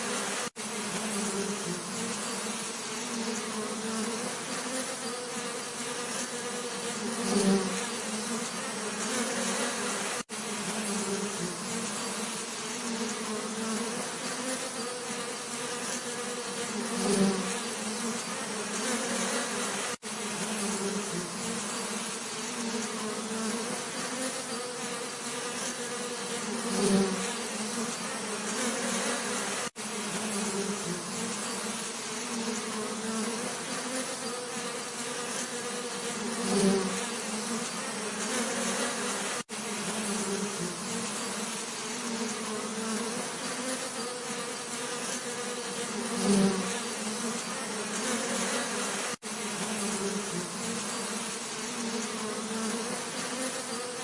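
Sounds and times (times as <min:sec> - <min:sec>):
bee passing close: 0:00.0 - 0:54.0
bees buzzing: 0:00.0 - 0:54.0.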